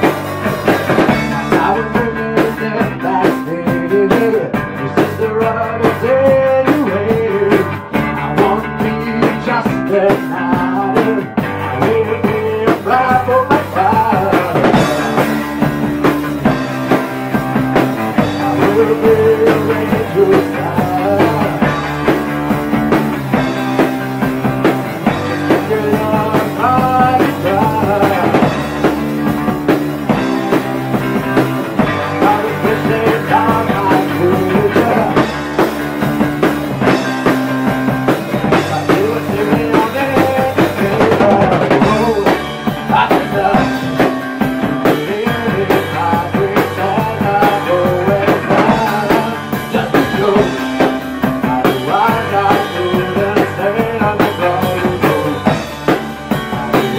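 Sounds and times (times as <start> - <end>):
rock drumming: 0.0 - 56.9
sliding guitar melody: 0.0 - 56.9
sustained electric guitar chords: 0.0 - 56.9.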